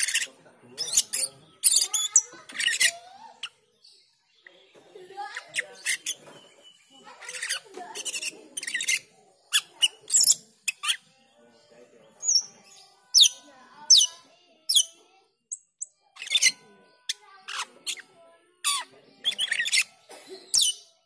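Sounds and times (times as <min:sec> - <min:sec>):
starling high piercing calls: 0:00.0 - 0:04.1, 0:05.0 - 0:11.2, 0:12.2 - 0:21.0
starling chattering and warbling: 0:00.0 - 0:21.0.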